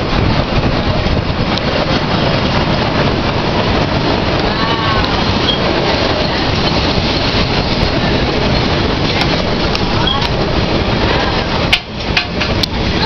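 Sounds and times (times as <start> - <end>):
steam locomotives passing: 0.0 - 13.0.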